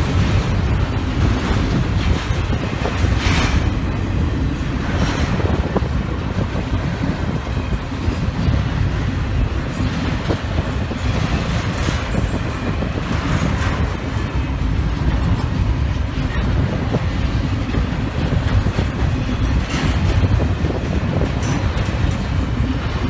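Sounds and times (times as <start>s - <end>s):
train rumbling past: 0.0s - 23.0s
wheels clicking on rails: 0.0s - 23.0s.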